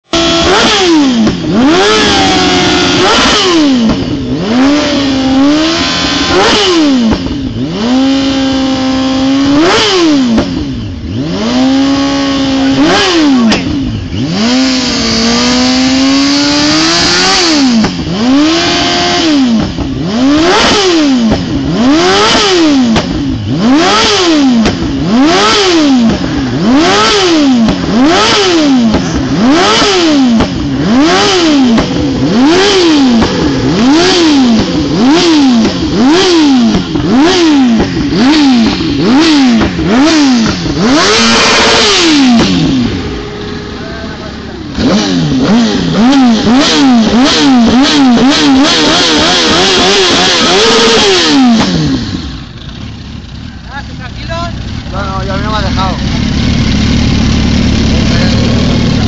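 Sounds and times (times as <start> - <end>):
motorcycle engine revving hard: 0.0 - 59.0
rev limiter cutting ignition: 0.0 - 59.0.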